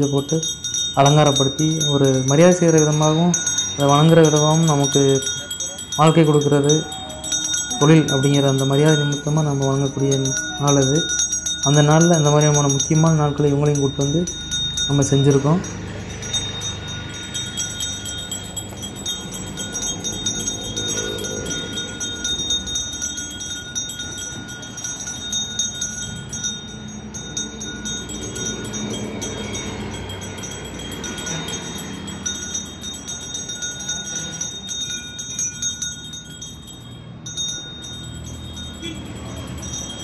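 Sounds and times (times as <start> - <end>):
hand bell ringing: 0.0 - 40.0.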